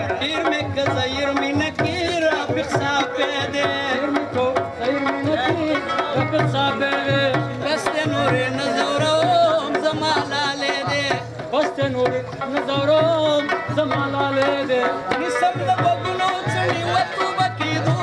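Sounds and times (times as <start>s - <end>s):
hand drum beat: 0.0s - 18.0s
harmonium melody: 0.0s - 18.0s.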